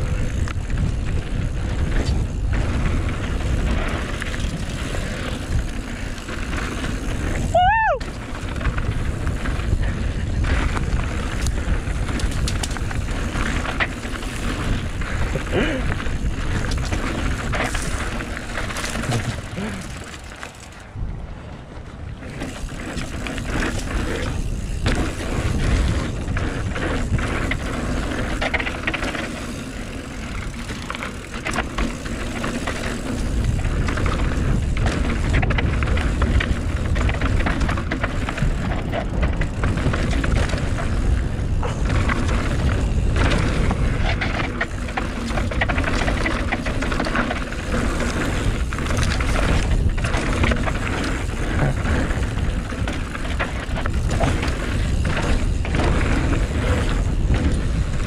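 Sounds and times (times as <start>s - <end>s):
bike rattling clicks: 0.0s - 21.1s, 21.8s - 58.0s
bike tyre noise on dirt: 0.0s - 58.0s
wind buffeting microphone: 0.0s - 58.0s.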